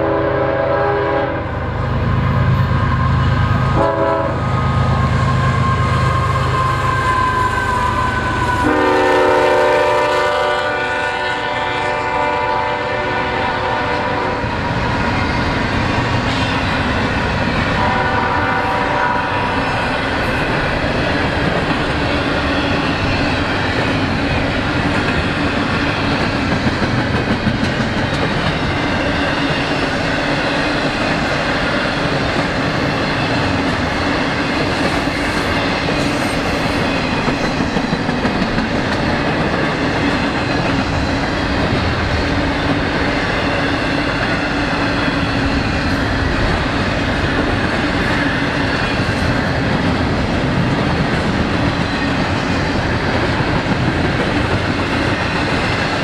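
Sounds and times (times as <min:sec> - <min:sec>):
freight train wheels on rails: 0:00.0 - 0:56.0.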